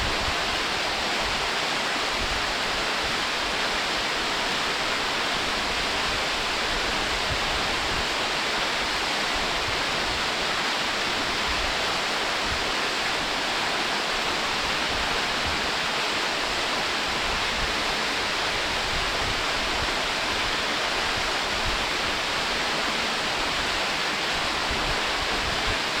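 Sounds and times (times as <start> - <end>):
waterfall rushing over rock: 0.0 - 26.0.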